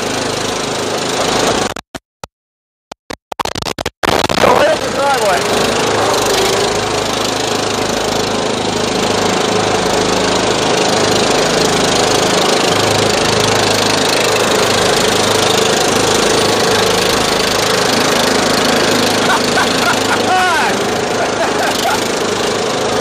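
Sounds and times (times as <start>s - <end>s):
lawn tractor engines running: 0.0s - 1.8s, 4.4s - 23.0s
steady whine: 3.4s - 23.0s.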